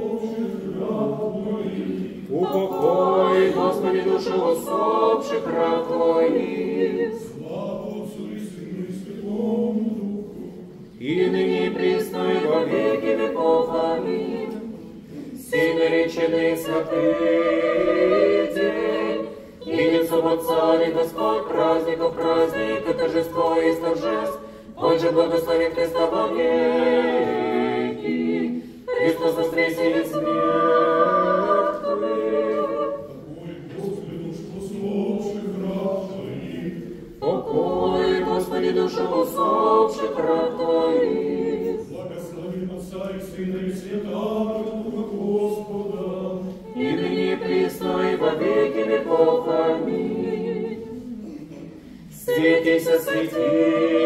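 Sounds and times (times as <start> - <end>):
choir chanting unaccompanied: 0.0 - 54.0.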